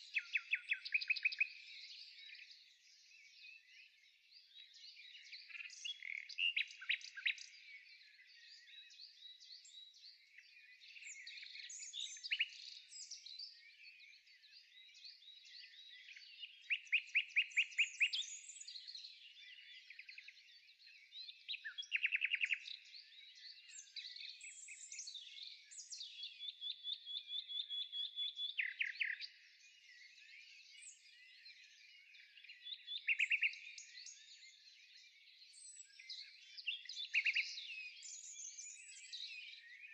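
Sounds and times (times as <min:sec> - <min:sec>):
small birds singing: 0:00.0 - 0:39.9.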